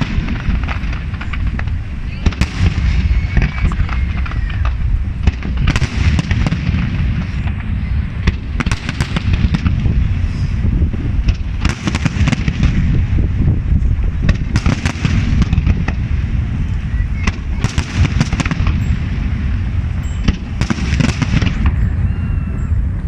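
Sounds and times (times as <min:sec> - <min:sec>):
firework shells bursting: 0:00.0 - 0:13.1, 0:14.2 - 0:22.0
fireworks crackling pops: 0:00.0 - 0:21.9.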